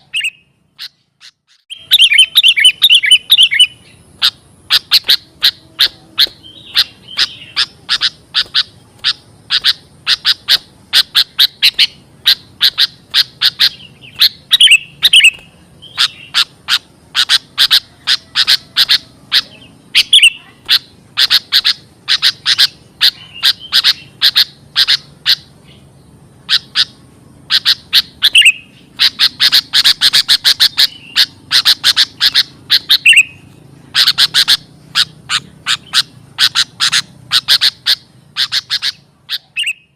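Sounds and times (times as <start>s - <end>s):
bird down-slurred whistle: 0.0s - 25.5s, 26.5s - 33.4s
bird sharp chipping calls: 0.0s - 39.9s.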